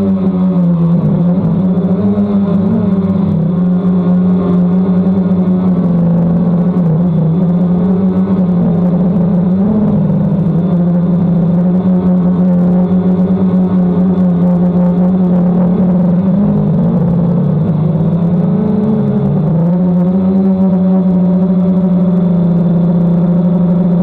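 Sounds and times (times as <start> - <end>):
quadcopter propellers humming: 0.0 - 24.0.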